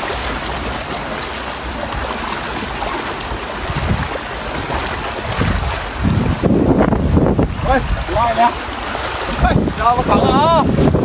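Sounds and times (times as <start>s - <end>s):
shallow river rushing: 0.0s - 11.0s.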